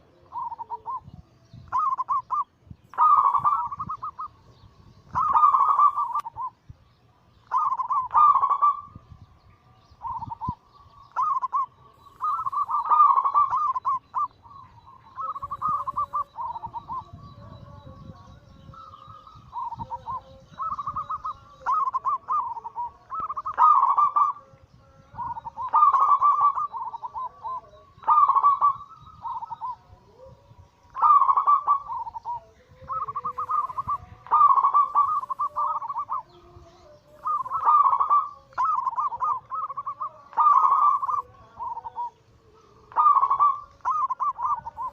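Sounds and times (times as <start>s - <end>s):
lower dove coos: 0.0s - 6.6s, 7.4s - 9.0s, 10.0s - 44.9s
doves cooing trilled coos: 0.0s - 44.9s.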